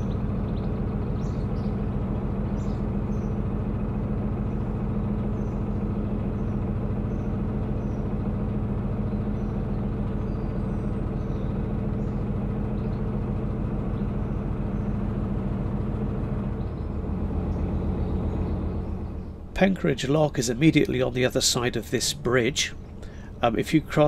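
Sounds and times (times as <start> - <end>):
boat diesel engine running: 0.0 - 24.0.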